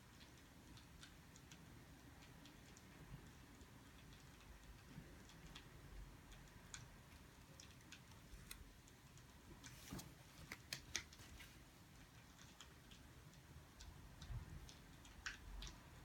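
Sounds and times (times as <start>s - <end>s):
faint small clicks and ticks: 0.0s - 16.0s.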